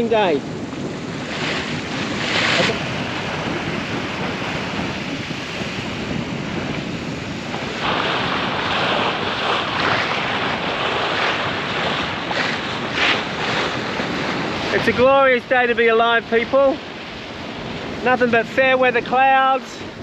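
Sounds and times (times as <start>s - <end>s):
water rushing along boat hull: 0.0s - 20.0s
wind buffeting microphone: 0.0s - 20.0s.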